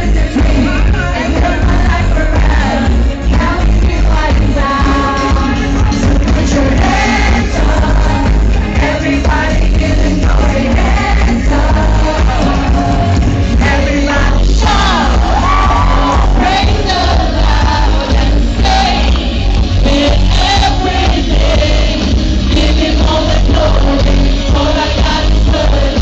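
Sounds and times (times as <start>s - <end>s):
lead singer: 0.0s - 26.0s
live pop-rock band: 0.0s - 26.0s.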